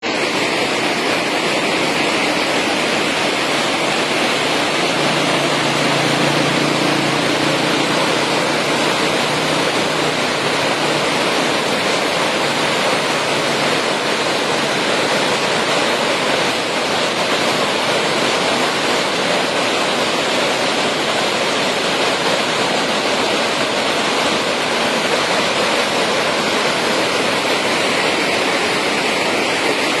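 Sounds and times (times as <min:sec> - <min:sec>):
floodwater rushing roar: 0:00.0 - 0:30.0.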